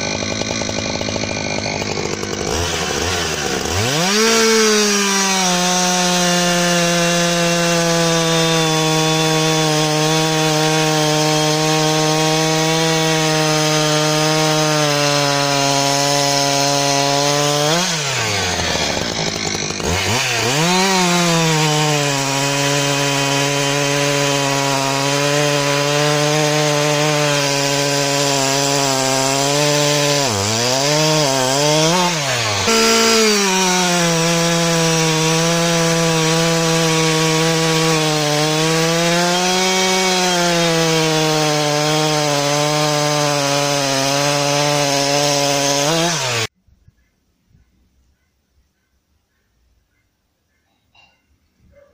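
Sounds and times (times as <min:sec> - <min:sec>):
chainsaw cutting log: 0:00.0 - 0:46.6.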